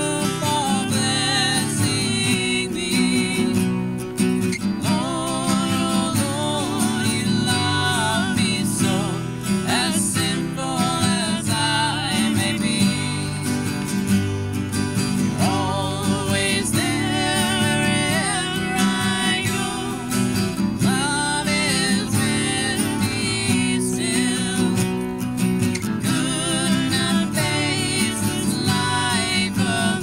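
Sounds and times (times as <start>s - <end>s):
woman singing: 0.0s - 3.8s, 4.8s - 13.8s, 15.3s - 25.1s, 26.0s - 30.0s
acoustic guitars strummed: 0.0s - 30.0s.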